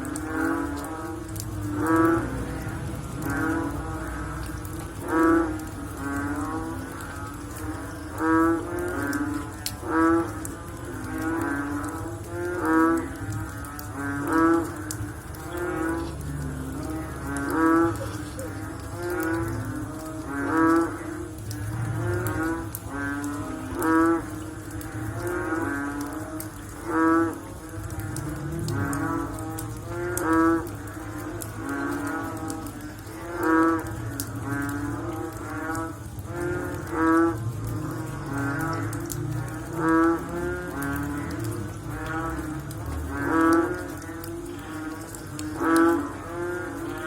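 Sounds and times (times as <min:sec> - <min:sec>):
frogs calling: 0:00.0 - 0:47.0.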